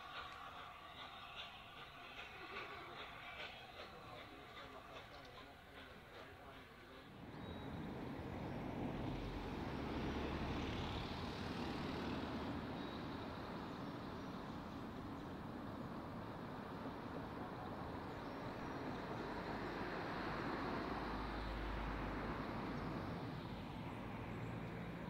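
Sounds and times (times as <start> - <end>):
heavy engine rumbling: 0.0 - 25.0.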